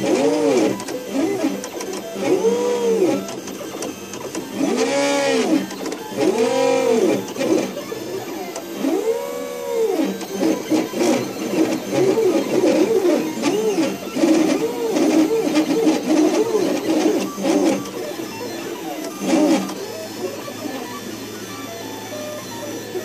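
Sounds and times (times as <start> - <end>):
printer stepper motors whining: 0.0 - 23.0.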